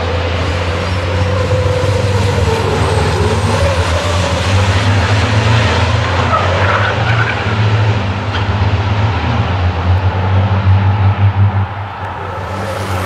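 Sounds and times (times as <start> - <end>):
truck diesel engines droning: 0.0 - 13.0.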